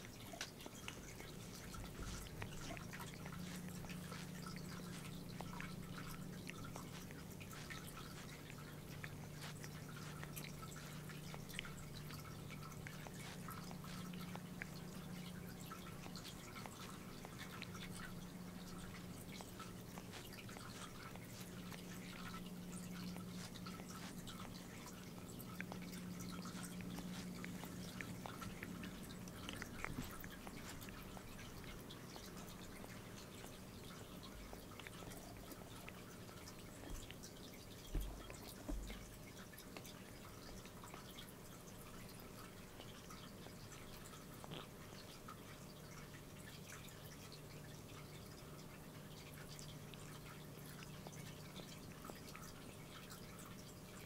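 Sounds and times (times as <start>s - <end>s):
cat licking its fur: 0.0s - 54.0s
steady low hum: 0.0s - 54.0s.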